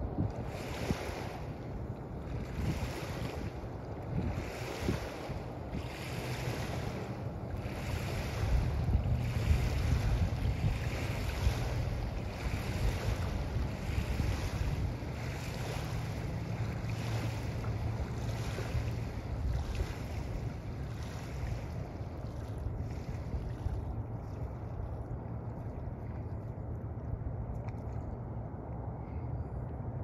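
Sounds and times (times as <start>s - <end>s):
wind buffeting the microphone: 0.0s - 27.5s
wavelets lapping on a shell beach: 0.0s - 29.9s.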